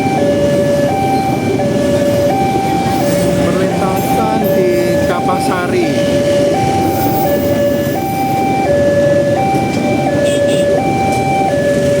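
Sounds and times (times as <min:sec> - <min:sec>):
level-crossing two-tone alarm: 0:00.0 - 0:12.0.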